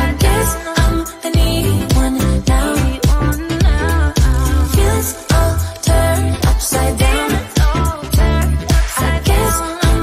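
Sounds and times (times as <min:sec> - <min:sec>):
pop song: 0:00.0 - 0:10.0
steady drum beat: 0:00.2 - 0:10.0.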